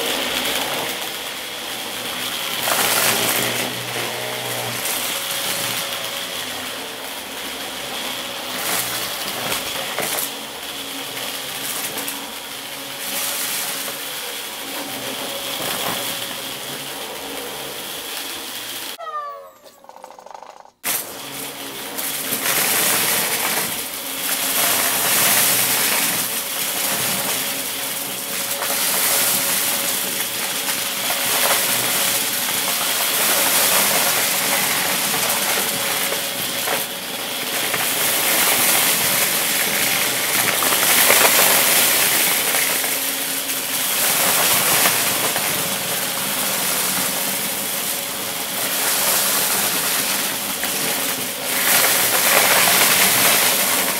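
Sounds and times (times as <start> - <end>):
debris rattling up vacuum hose: 0.0 - 17.4, 20.0 - 53.9
vacuum cleaner motor hum: 0.0 - 53.9.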